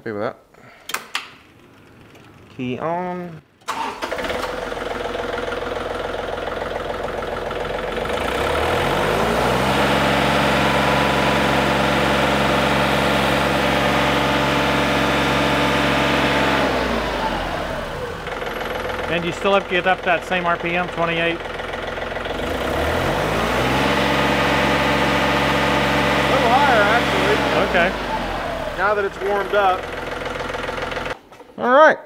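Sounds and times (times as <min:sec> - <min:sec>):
tractor diesel engine revving: 0:03.6 - 0:31.2.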